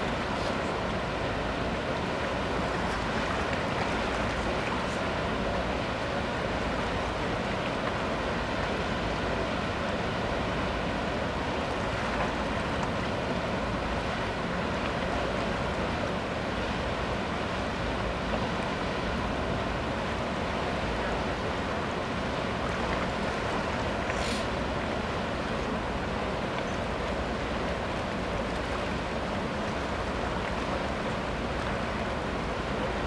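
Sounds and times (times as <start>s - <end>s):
churning propeller wash: 0.0s - 33.0s
ferry engine noise: 0.0s - 33.0s.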